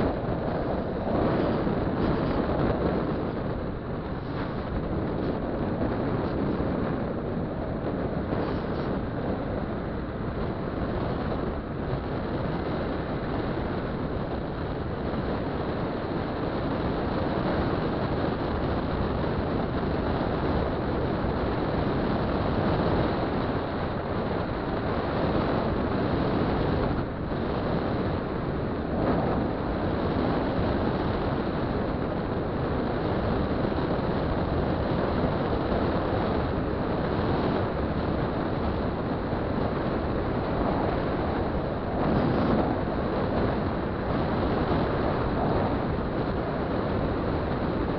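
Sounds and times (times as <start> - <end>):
engine running: 0.0 - 47.9
vehicle road noise: 0.0 - 47.9
wind rush on microphone: 0.0 - 47.9.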